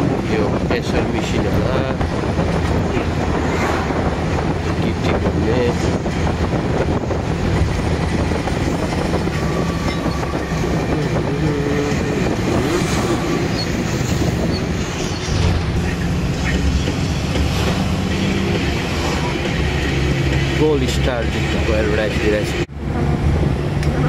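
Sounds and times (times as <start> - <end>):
bus engine drone: 0.0 - 24.0
road noise: 0.0 - 24.0.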